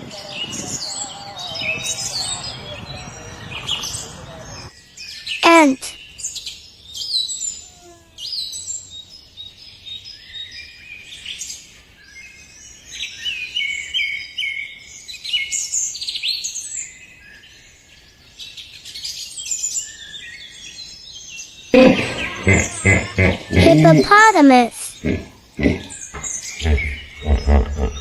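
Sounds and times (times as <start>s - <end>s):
small birds chirping: 0.0s - 7.6s, 12.2s - 28.0s.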